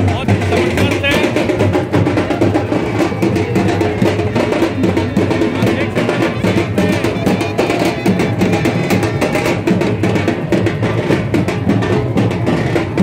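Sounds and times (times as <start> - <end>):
dj music with heavy drum beat: 0.0 - 12.8.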